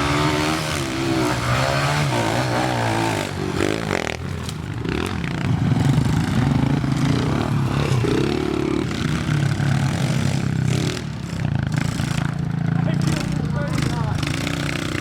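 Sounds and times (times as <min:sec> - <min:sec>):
pit bike engine revving: 0:00.0 - 0:15.0.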